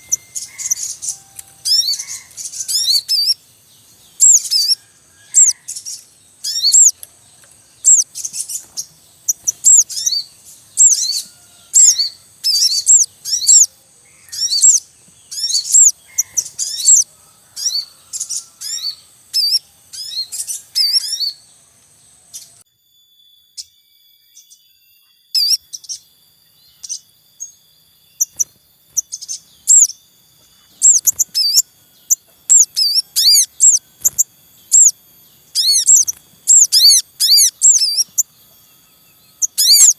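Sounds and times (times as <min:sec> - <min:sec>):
birds chirping in bursts: 0:00.0 - 0:39.9
faint steady high tone: 0:00.0 - 0:39.9.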